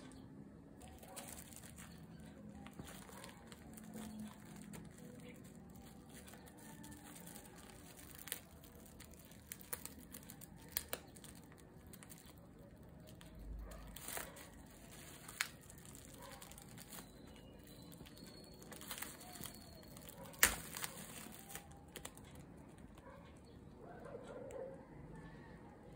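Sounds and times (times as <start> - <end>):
bubble-wrap mailer crinkling: 0.0 - 23.0
sharp plastic crackles: 0.0 - 23.6.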